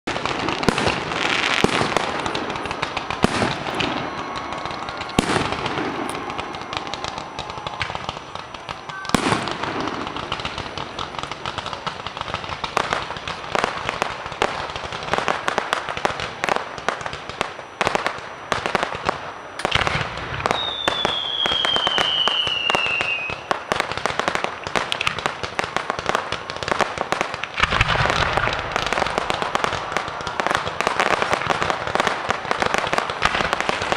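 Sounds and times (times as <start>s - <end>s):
fireworks bangs and crackling: 0.0s - 33.9s
heavy firework booms: 0.1s - 19.1s, 19.7s - 33.9s
falling firework whistle: 0.1s - 33.9s.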